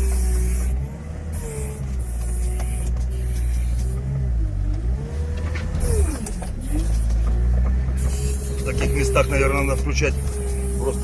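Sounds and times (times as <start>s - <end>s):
vehicle engine labouring uphill: 0.0s - 11.0s.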